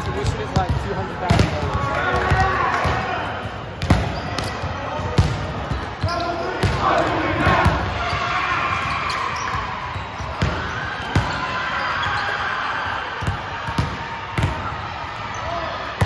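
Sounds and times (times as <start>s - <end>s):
basketball bouncing on court: 0.0s - 12.3s, 13.2s - 14.7s.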